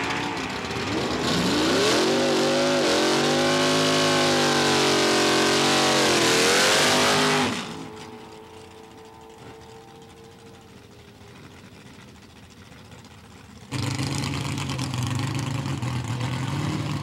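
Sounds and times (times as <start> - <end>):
drag car engine at full throttle: 0.0 - 17.0.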